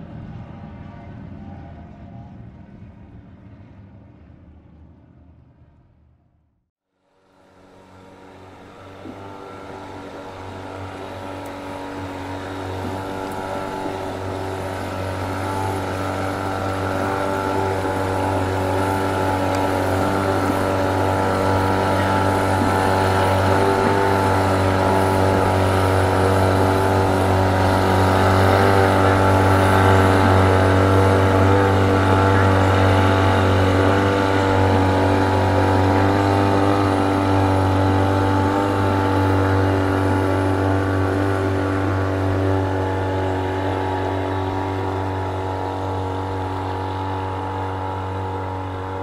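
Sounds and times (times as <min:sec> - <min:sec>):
racing boat engine approaching: 0:00.0 - 0:06.2, 0:07.0 - 0:49.0.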